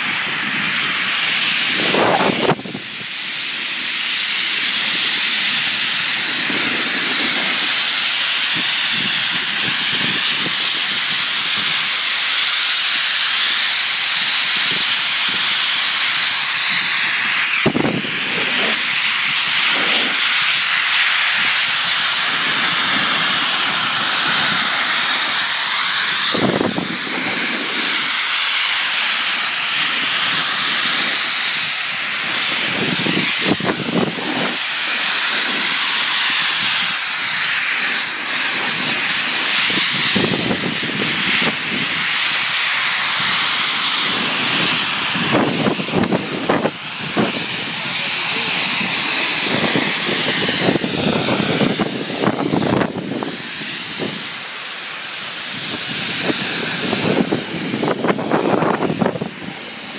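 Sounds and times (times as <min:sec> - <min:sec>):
snowmaking guns hissing: 0:00.0 - 0:59.9.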